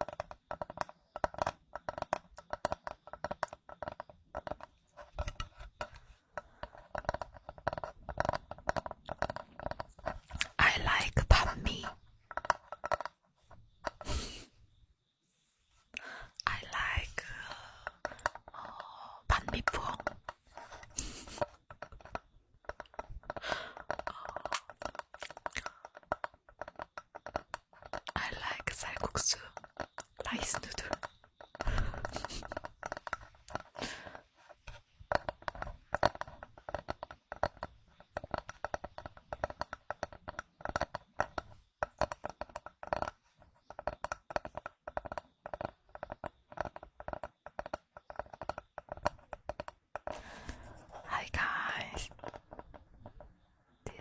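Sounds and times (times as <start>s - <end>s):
small hard objects tapping: 0.0s - 14.4s, 16.0s - 54.0s.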